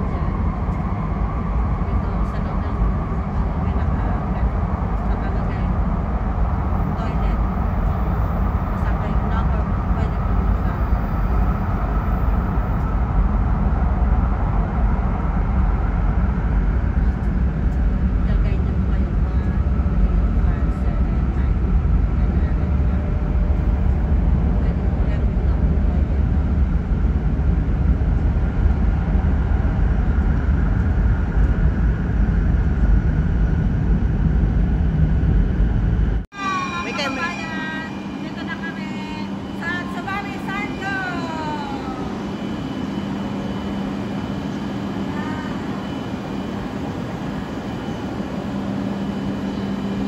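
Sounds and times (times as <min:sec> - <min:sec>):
train cabin rumble and rushing: 0:00.0 - 0:50.0.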